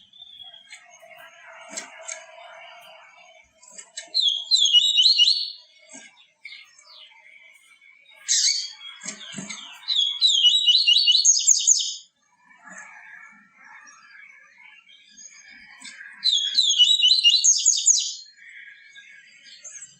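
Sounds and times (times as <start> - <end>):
bird twittering song: 0.0 - 19.9
soft bird chirps: 0.0 - 19.9.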